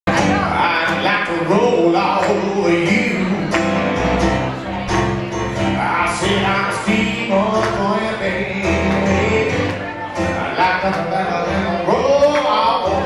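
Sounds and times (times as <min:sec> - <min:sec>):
man singing: 0:00.1 - 0:04.3, 0:05.6 - 0:13.0
piano music: 0:00.1 - 0:13.0.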